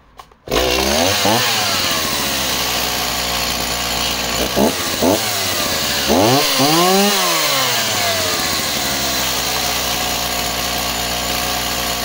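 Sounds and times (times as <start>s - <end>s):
chainsaw idling and revving: 0.5s - 12.0s.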